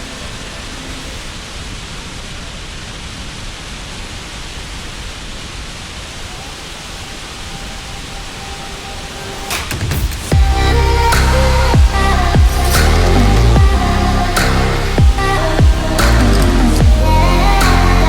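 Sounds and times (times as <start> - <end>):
waterfall rushing water: 0.0 - 18.0.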